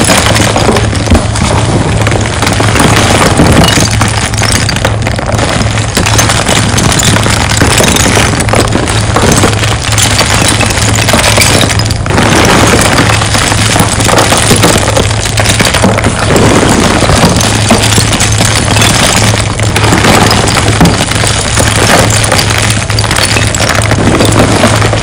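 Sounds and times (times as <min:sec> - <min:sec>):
chalk chunks crunching: 0:00.0 - 0:25.0.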